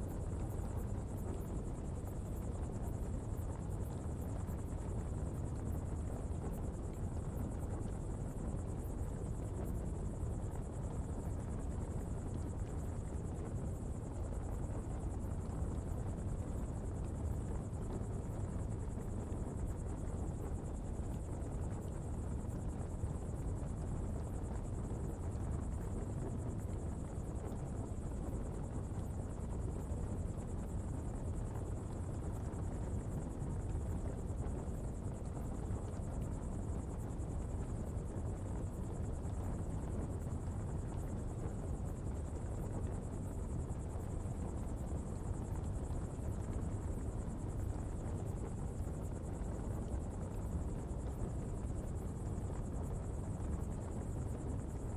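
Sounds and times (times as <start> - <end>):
fire burning with low rumble: 0.0 - 54.9.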